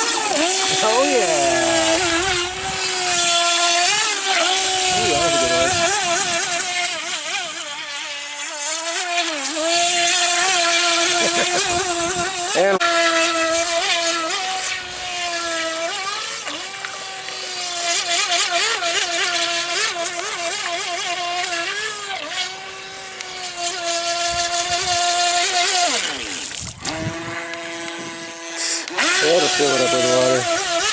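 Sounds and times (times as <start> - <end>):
model boat motor whining: 0.0 - 30.9.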